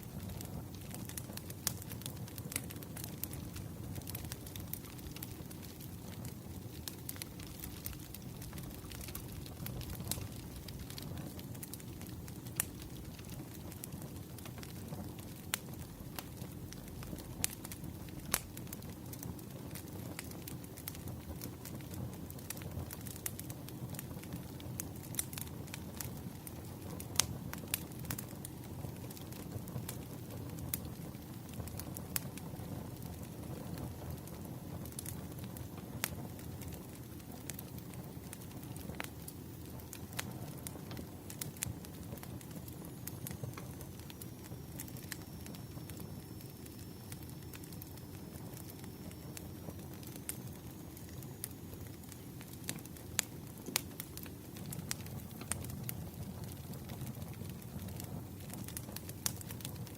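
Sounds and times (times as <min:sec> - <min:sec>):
low rumble of burning logs: 0:00.0 - 0:59.9
wood fire crackling: 0:00.0 - 0:59.9.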